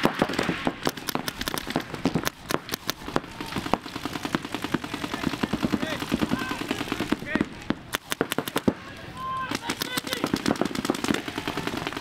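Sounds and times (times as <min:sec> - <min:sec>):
paintball markers firing: 0:00.0 - 0:08.9, 0:09.5 - 0:12.0.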